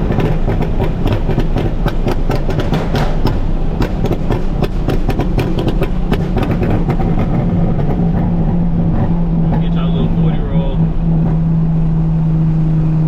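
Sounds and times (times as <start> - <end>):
car engine exhaust tone: 0.0 - 13.0.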